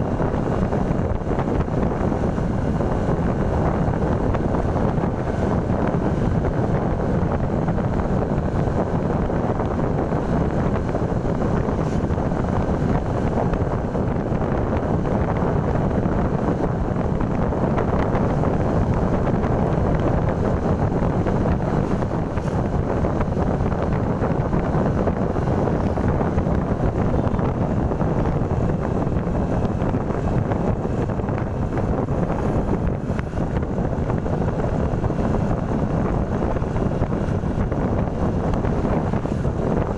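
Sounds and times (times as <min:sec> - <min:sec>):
moving vehicle noise: 0:00.0 - 0:39.9
wind rushing over microphone: 0:00.0 - 0:39.9.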